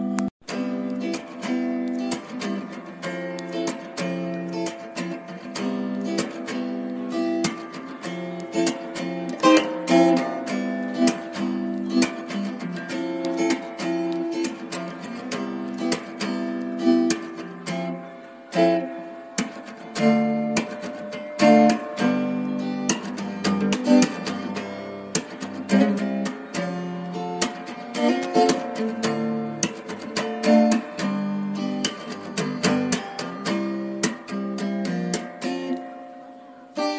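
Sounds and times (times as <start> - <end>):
acoustic guitar music: 0.0 - 36.9.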